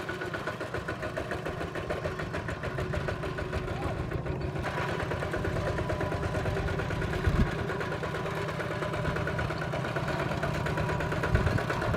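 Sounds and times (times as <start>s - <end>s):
diesel engine chugging: 0.0s - 11.9s
engine knock: 0.0s - 11.9s.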